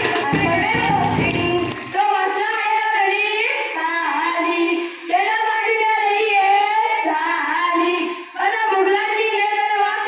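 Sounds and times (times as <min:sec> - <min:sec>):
boy singing into a microphone: 0:00.0 - 0:10.0.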